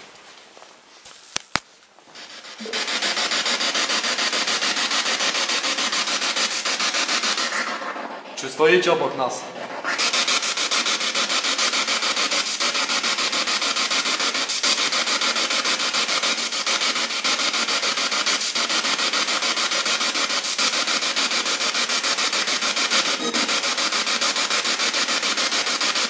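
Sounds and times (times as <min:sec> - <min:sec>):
pulsing static hiss from speaker: 0:00.8 - 0:26.0.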